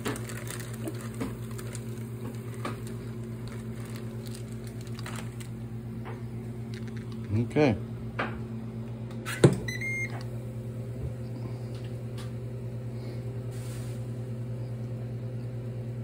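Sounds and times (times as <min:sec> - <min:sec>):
grill fan humming: 0:00.0 - 0:16.0.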